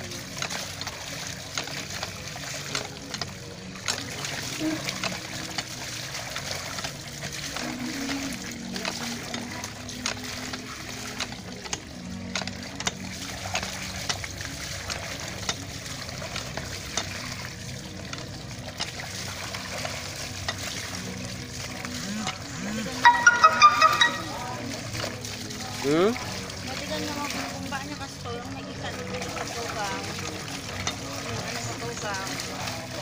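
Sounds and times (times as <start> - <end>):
clothes splashing in soapy water: 0.0 - 33.0
small sharp splashes: 0.0 - 33.0
water running from a pipe: 0.0 - 33.0.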